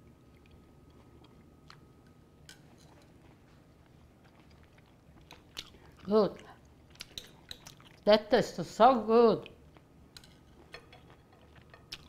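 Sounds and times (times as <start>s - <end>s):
faint chewing: 0.0s - 8.1s, 9.4s - 12.0s.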